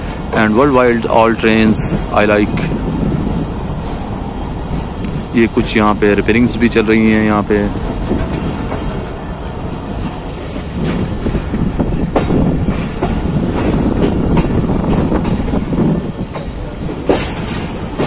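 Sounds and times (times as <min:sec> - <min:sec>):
train wheels rumbling on rails: 0:00.0 - 0:18.0
wheels clacking over rail joints: 0:00.0 - 0:18.0.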